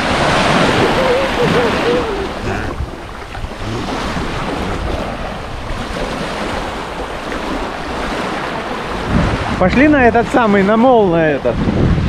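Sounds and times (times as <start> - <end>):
sea waves on shore: 0.0 - 12.0
wind buffeting microphone: 0.0 - 12.0.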